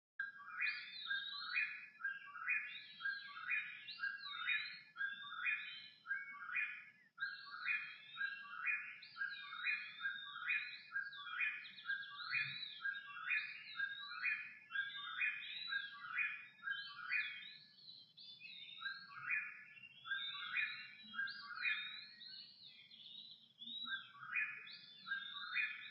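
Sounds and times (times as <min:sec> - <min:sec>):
robin singing whistled phrases: 0:00.2 - 0:25.9.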